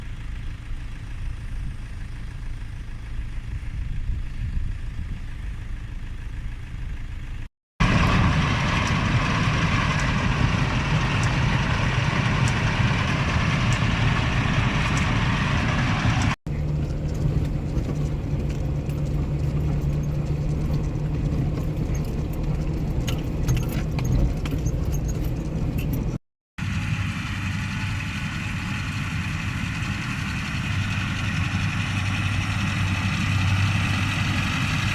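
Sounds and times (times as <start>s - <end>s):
heavy machinery engines running: 0.0s - 34.9s.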